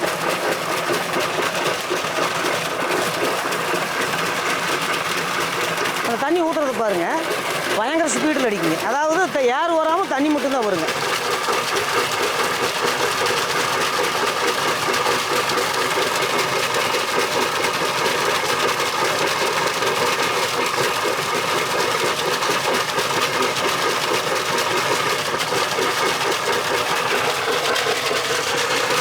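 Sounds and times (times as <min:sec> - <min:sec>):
air compressor running: 0:00.0 - 0:29.0.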